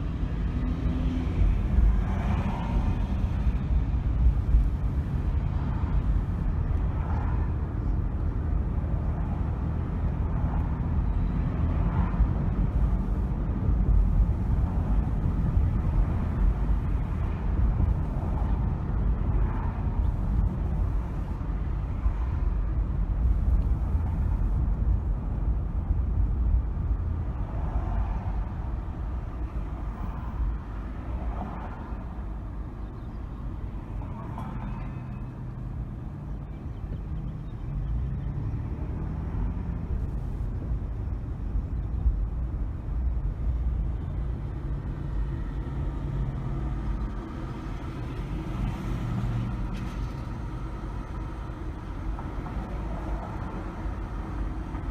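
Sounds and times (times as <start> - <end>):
engine and tyre rumble: 0.0 - 54.9.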